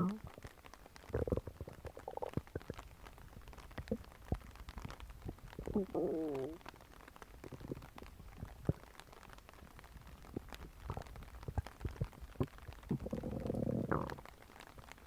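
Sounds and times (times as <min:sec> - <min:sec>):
stomach growling: 0:00.0 - 0:15.0
stomach gurgling pops and clicks: 0:00.0 - 0:15.0.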